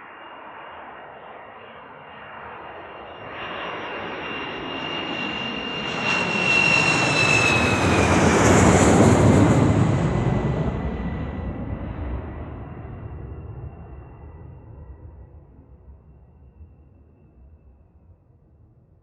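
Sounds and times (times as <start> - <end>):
aeroplane engine roar: 0.0 - 18.8.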